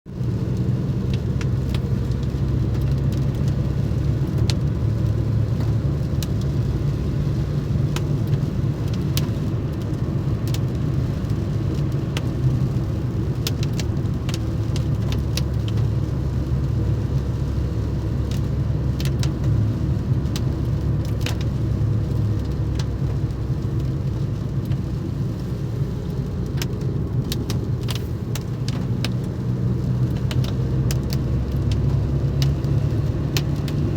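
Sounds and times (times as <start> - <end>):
vehicle engine and road rumble: 0.1 - 33.9.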